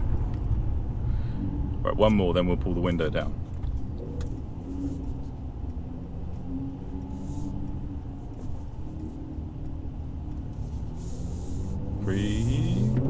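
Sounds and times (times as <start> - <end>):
car engine droning in cabin: 0.0 - 13.0.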